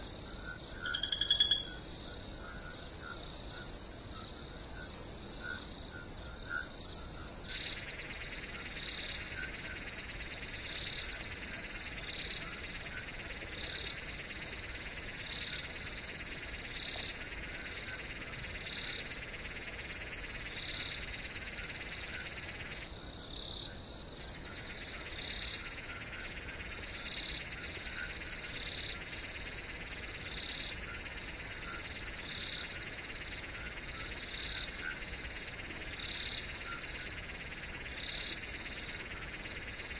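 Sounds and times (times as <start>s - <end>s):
dense frog chorus: 0.0s - 39.9s
frog calls: 0.0s - 39.9s
high insect trill: 0.0s - 39.9s.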